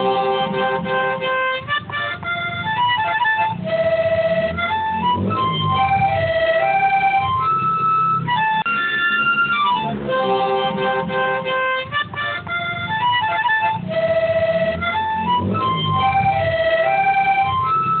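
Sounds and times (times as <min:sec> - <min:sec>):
harmonica melody: 0:00.0 - 0:18.0.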